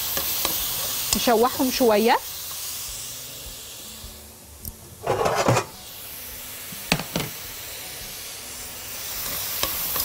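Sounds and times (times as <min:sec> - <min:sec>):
onion sizzling in a pot: 0:00.0 - 0:10.0.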